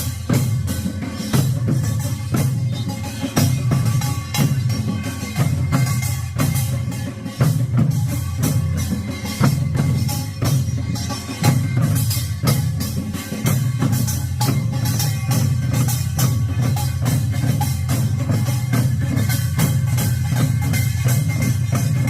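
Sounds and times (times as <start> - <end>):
barrel drums beaten in rhythm: 0.0 - 22.0.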